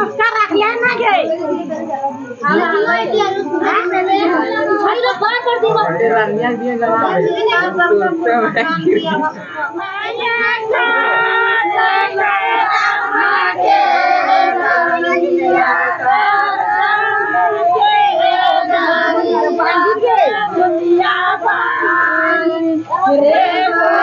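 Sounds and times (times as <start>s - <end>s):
women and girls singing together: 0.0s - 24.0s.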